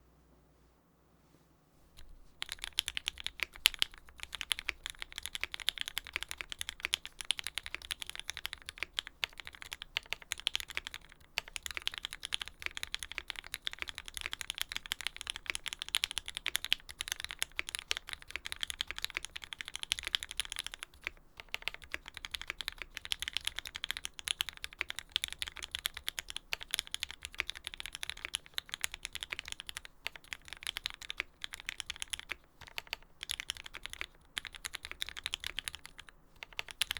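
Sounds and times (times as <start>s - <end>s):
fast typing on mechanical keyboard: 2.4s - 36.9s.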